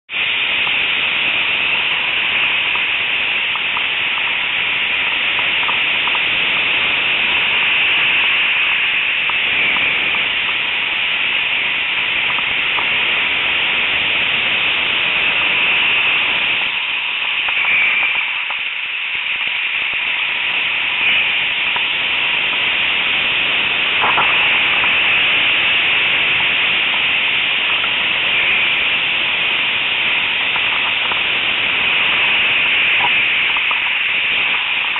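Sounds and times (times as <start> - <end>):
breaking surf: 0.1 - 34.9
faint crackles: 0.1 - 34.9
strong wind on microphone: 0.1 - 34.9.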